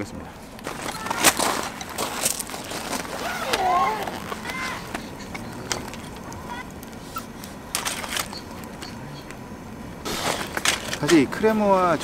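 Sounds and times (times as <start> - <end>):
metal legs scraping rattle: 0.6 - 9.0, 10.0 - 12.0.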